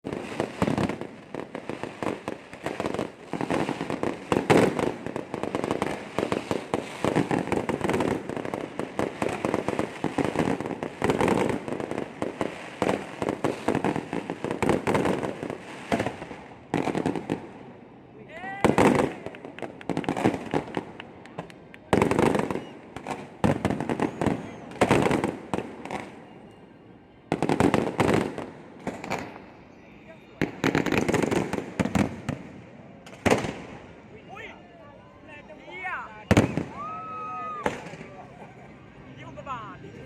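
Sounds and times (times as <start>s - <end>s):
fireworks bangs and crackles: 0.0s - 34.5s, 35.3s - 40.0s.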